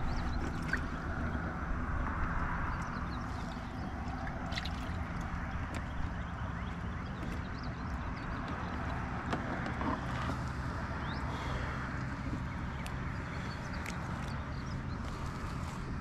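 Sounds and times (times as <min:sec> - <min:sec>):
water washing along hull: 0:00.0 - 0:16.0.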